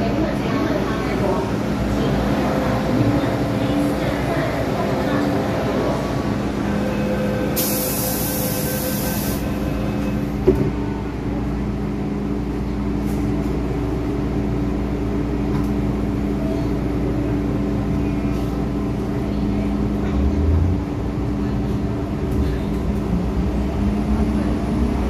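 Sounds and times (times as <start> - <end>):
train equipment hum: 0.0 - 25.0.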